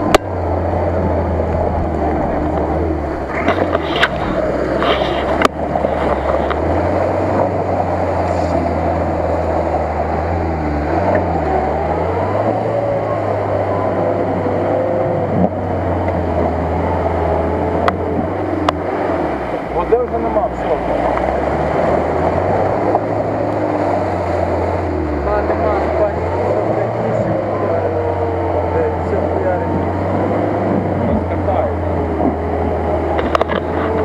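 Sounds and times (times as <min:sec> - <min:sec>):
engine revving through mud: 0:00.0 - 0:34.0
off-road engine idling: 0:00.0 - 0:34.0.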